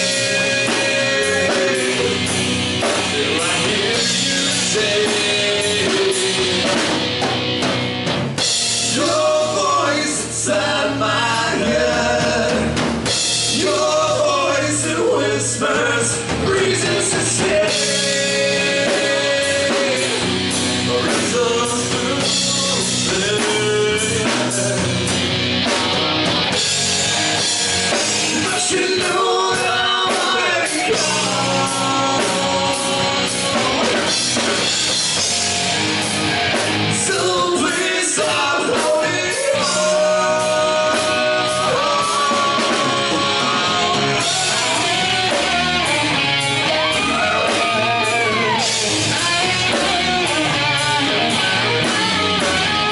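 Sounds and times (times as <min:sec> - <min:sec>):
man singing: 0:00.0 - 0:07.0, 0:08.7 - 0:25.2, 0:27.9 - 0:35.3, 0:37.0 - 0:46.2, 0:46.8 - 0:51.9
bass guitar: 0:00.0 - 0:52.9
drum kit: 0:00.0 - 0:52.9
electric guitars: 0:00.0 - 0:52.9.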